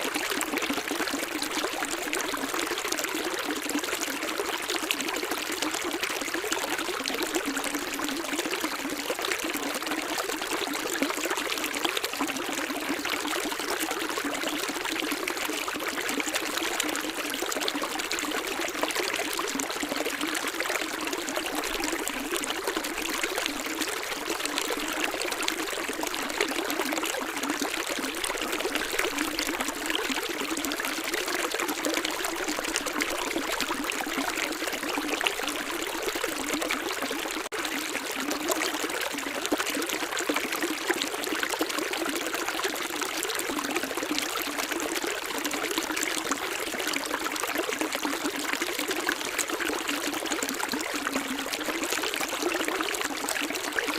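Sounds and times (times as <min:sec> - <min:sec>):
stream flowing and trickling: 0:00.0 - 0:53.9.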